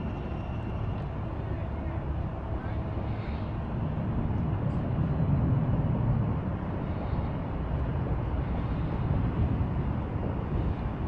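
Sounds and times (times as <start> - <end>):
low rumbling noise: 0.0 - 11.0.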